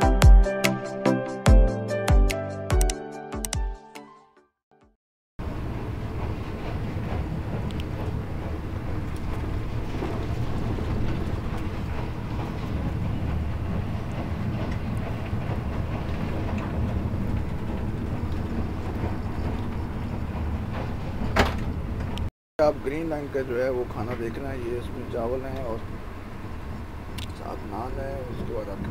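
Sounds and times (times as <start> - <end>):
train rumble inside carriage: 5.4 - 28.9.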